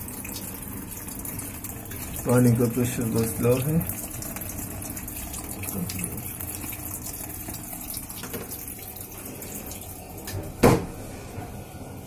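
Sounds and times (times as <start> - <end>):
water pouring into washing machine drum: 0.0 - 11.0.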